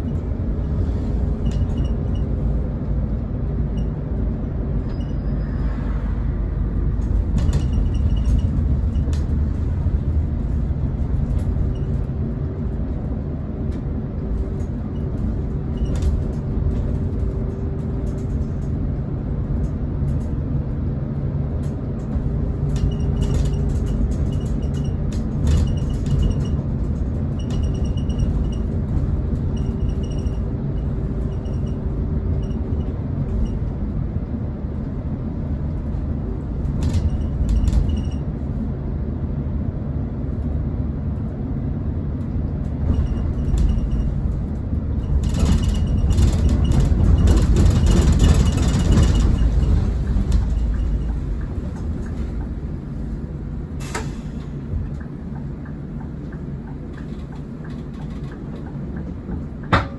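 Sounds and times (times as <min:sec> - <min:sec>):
coach engine and road rumble: 0:00.0 - 0:59.9.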